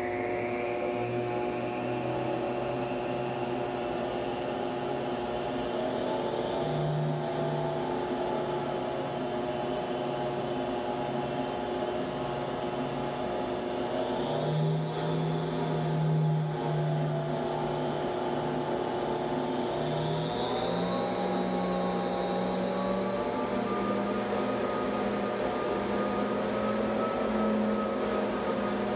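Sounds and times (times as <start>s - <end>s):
flow bench motor whine: 0.0s - 28.9s.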